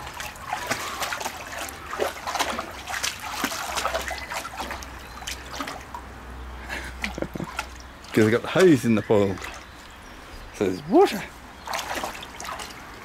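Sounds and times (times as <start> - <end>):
dog paws splashing water: 0.0 - 13.0.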